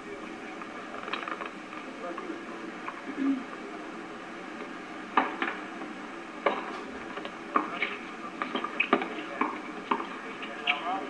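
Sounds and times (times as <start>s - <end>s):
camcorder hiss: 0.0s - 11.0s.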